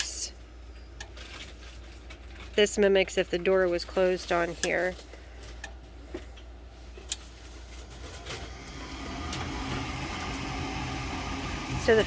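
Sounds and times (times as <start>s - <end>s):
furnace fan motor humming: 0.0s - 12.0s.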